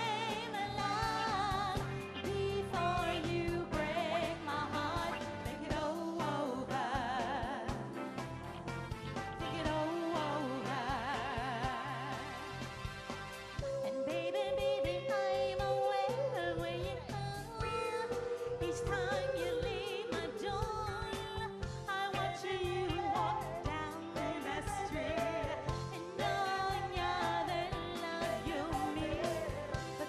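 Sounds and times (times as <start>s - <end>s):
women singing: 0.0s - 8.2s, 9.4s - 12.7s, 13.6s - 30.0s
soul pop band playing: 0.0s - 30.0s.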